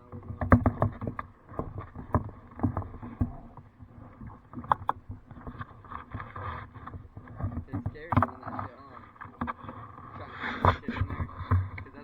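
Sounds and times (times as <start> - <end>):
knocks against kayak hull: 0.0 - 12.0.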